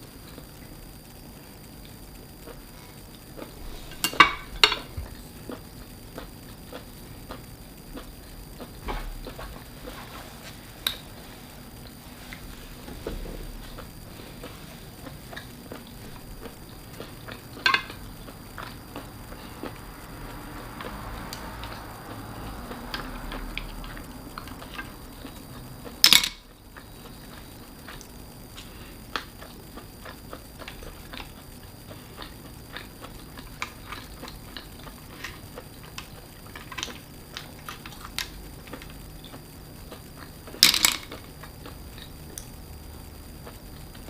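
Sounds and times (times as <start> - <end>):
close-miked chewing: 0.0 - 44.0.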